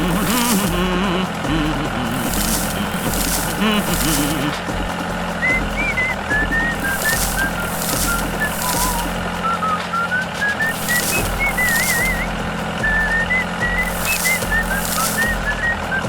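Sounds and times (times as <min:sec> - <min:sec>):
steady low hum: 0:00.0 - 0:09.8, 0:10.4 - 0:16.0
hissy shaker strokes: 0:00.0 - 0:16.0
whistled melody: 0:00.0 - 0:16.0.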